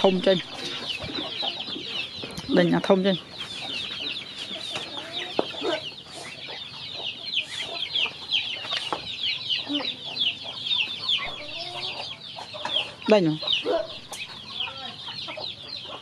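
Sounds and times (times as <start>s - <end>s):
chicks peeping: 0.0s - 16.0s
hens clucking: 0.0s - 16.0s.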